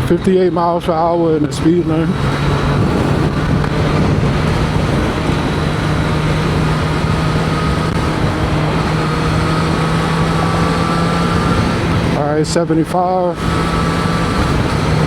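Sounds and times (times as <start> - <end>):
motorcycle engine droning: 0.0 - 15.0
wind noise in helmet: 0.0 - 15.0.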